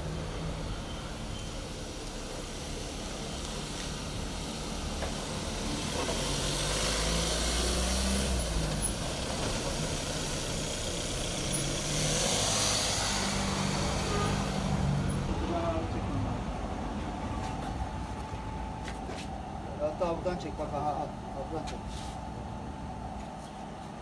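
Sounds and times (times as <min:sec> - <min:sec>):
van engine running: 0:00.0 - 0:24.0.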